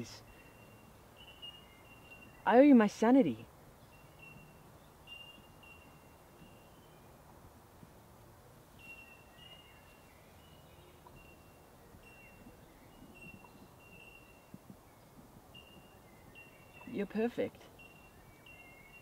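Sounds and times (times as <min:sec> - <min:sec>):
faint field ambience: 0:00.0 - 0:19.0.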